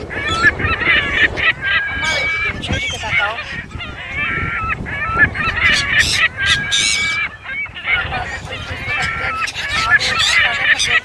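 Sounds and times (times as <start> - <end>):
waterbirds calling: 0.0 - 11.0
wind rumble on microphone: 0.0 - 11.0.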